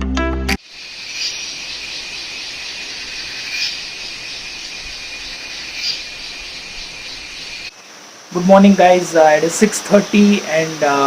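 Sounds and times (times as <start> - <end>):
insects chirping: 0.6 - 11.0.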